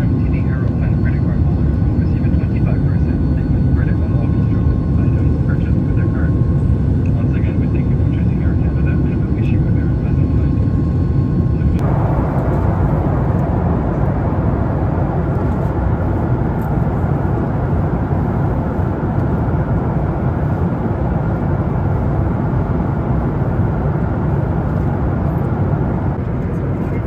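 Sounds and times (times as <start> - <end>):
airplane cabin engine noise: 0.0 - 27.0.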